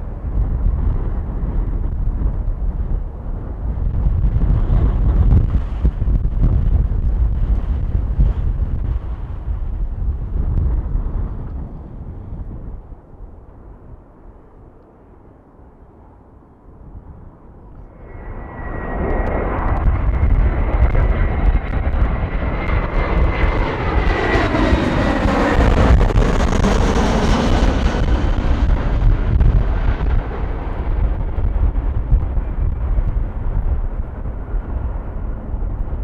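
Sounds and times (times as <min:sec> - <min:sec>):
heavy low rumble: 0:00.0 - 0:14.8, 0:16.0 - 0:36.0
jet airliner engine whine: 0:00.0 - 0:36.0.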